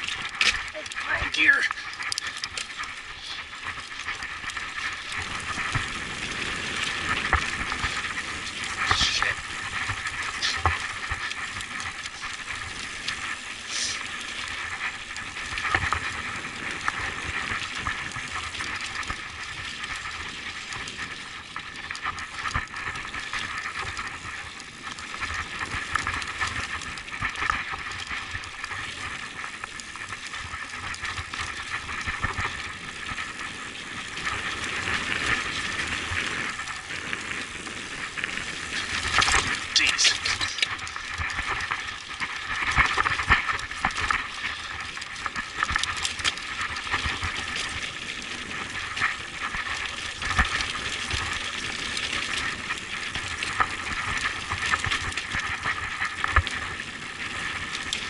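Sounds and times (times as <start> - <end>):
bike tyres rolling on rock: 0.0 - 58.0.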